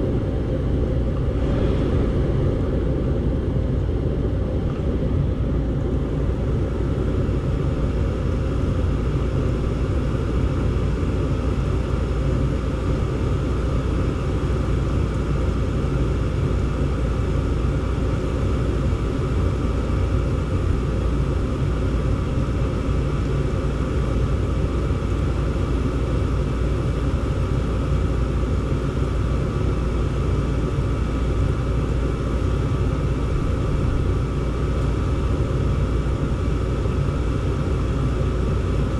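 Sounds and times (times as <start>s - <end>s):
faint steady whine: 0.0s - 38.9s
furnace low rumble: 0.0s - 38.9s.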